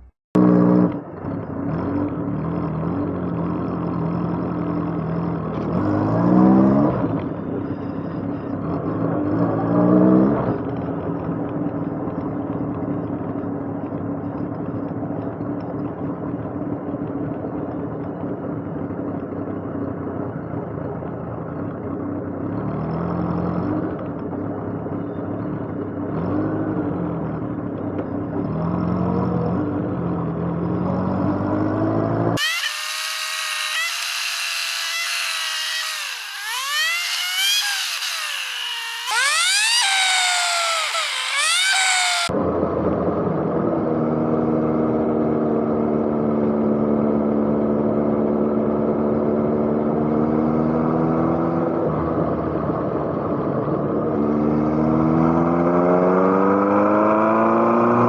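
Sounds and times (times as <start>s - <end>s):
motorcycle engine accelerating: 0.4s - 19.1s, 19.9s - 58.0s.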